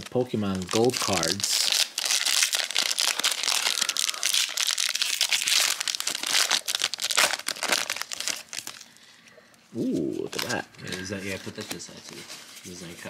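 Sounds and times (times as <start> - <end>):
foil wrapper crinkling: 0.0 - 9.1, 10.2 - 13.0.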